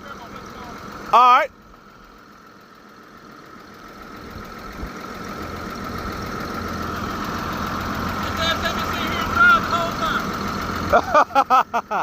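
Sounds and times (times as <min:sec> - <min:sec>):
engine whining and rumbling: 0:00.0 - 0:12.0.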